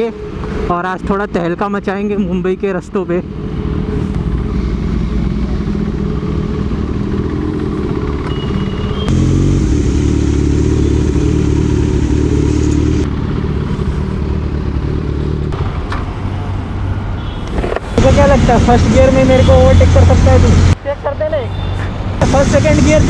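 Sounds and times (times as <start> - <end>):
motorcycle engines at low speed: 0.0 - 16.8, 17.4 - 20.9, 22.2 - 23.0.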